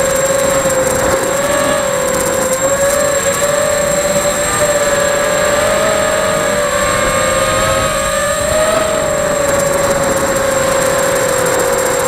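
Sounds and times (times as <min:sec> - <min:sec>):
quadcopter motors buzzing whine: 0:00.0 - 0:12.0.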